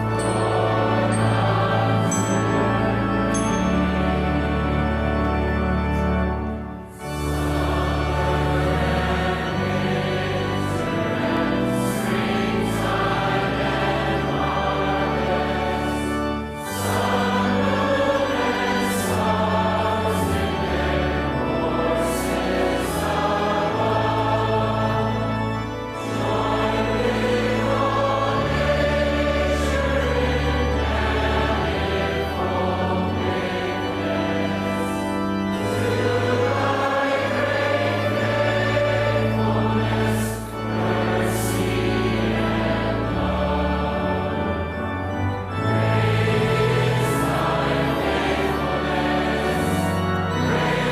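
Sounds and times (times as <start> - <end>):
choir singing a hymn: 0.0 - 50.9
sustained accompaniment: 0.0 - 50.9.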